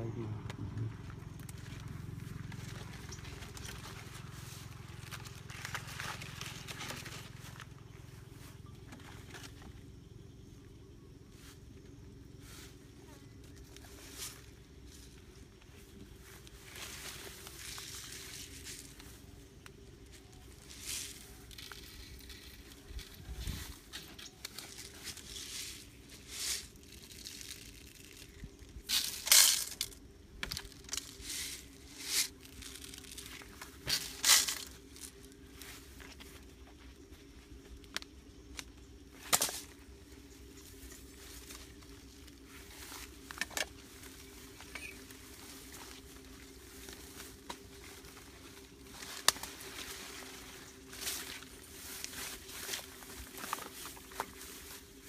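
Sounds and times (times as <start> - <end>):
rustling of plastic trap and leaves: 0.8 - 9.8, 12.4 - 36.9, 37.7 - 55.0.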